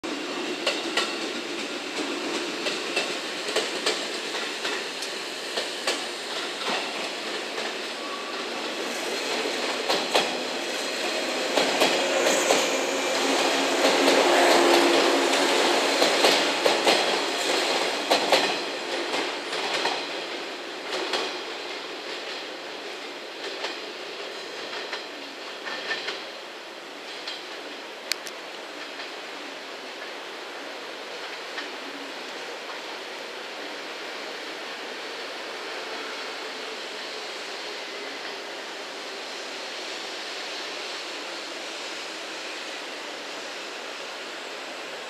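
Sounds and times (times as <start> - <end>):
electric train passing: 0.0 - 45.0.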